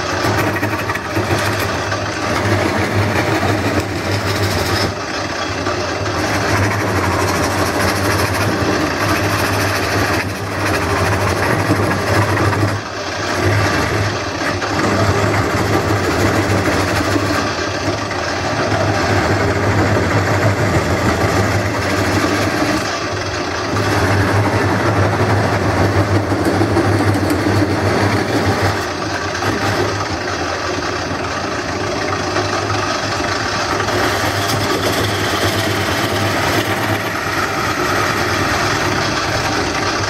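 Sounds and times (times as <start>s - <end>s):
turning tool scraping wood: 0.0s - 30.5s, 32.3s - 40.0s
wood lathe motor hum: 0.0s - 40.0s.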